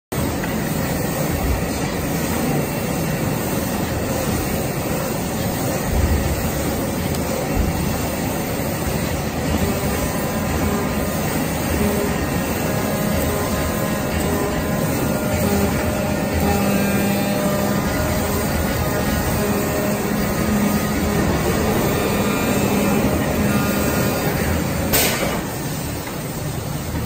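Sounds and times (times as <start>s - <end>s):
knife cutting machine running: 0.2s - 26.4s.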